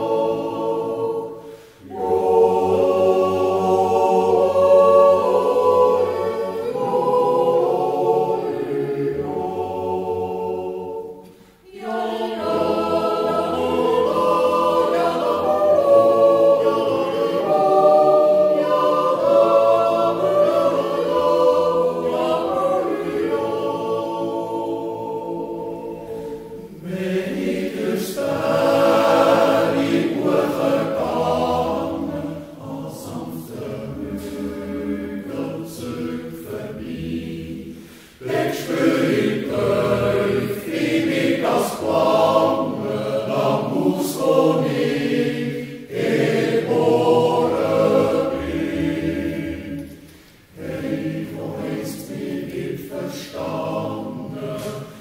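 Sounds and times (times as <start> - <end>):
choir yodeling a cappella: 0.0 - 55.0.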